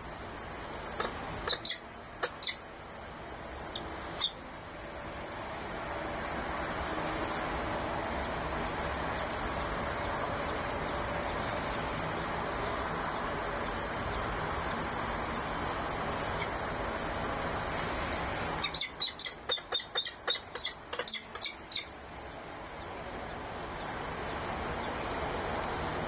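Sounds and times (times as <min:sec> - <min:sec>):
rushing background hiss: 0:00.0 - 0:19.5, 0:20.1 - 0:26.0.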